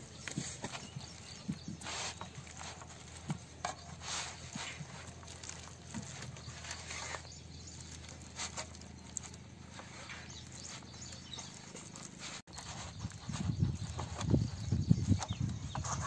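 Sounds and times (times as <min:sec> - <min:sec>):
hand squelching wet paste: 0:00.0 - 0:15.9.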